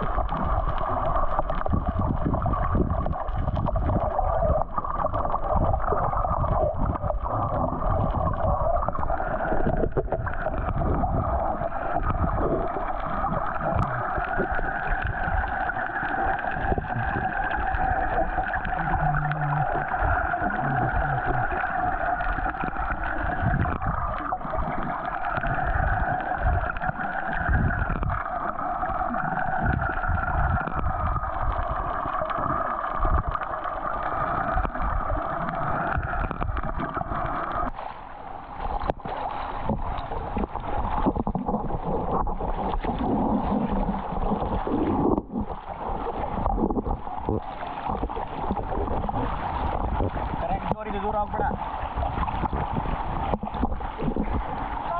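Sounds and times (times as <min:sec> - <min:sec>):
muffled underwater water wash: 0:00.0 - 0:54.9.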